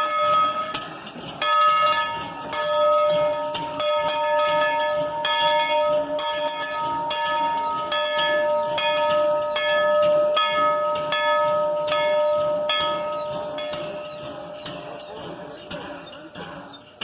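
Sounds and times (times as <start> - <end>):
locomotive bell ringing: 0.0 - 17.0.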